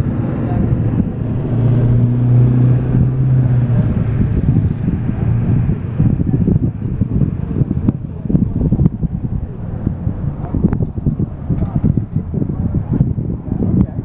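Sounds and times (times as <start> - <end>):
vehicle engine humming: 0.0 - 14.0
wind buffeting microphone: 0.0 - 14.0.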